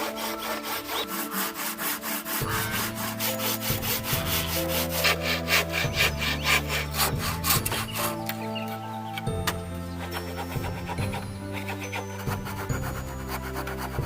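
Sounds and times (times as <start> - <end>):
hand saw cutting wood: 0.0 - 8.8, 9.5 - 14.0.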